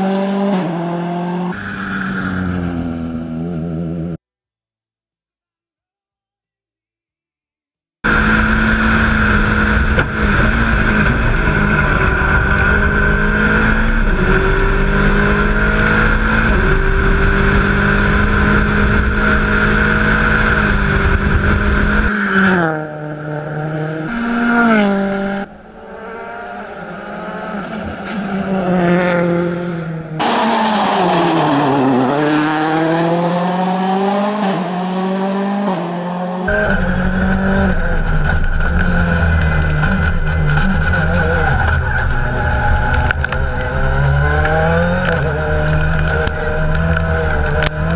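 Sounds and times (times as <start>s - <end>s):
rally car engine revving: 0.0s - 4.2s, 8.0s - 47.9s.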